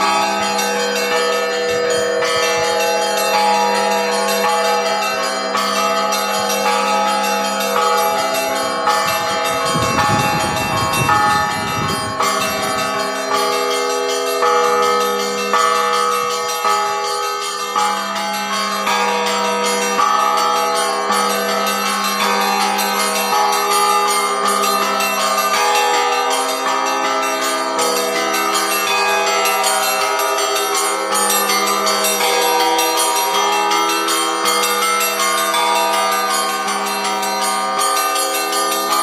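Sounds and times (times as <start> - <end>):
deep bells ringing: 0.0 - 39.0
small bells striking quickly: 0.0 - 39.0.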